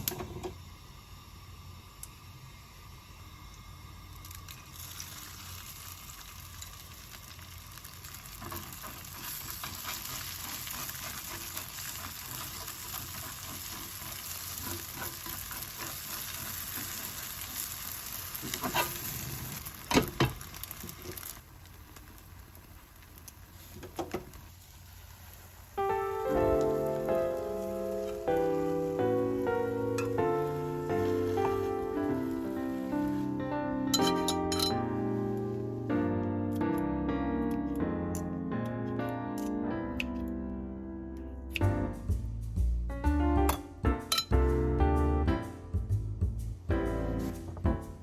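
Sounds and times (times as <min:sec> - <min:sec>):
food sizzling in frying pan: 0:00.0 - 0:36.4, 0:41.5 - 0:48.0.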